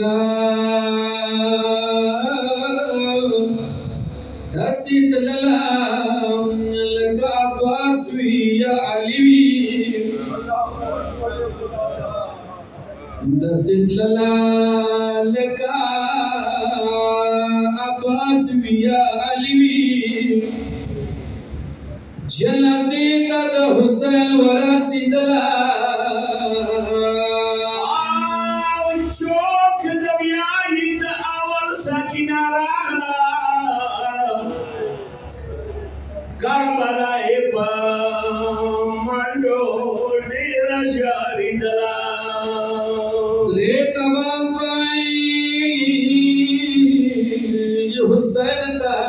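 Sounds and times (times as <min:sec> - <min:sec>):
man singing lament: 0:00.0 - 0:03.9, 0:04.5 - 0:11.2, 0:13.2 - 0:21.0, 0:22.3 - 0:35.0, 0:36.4 - 0:49.0.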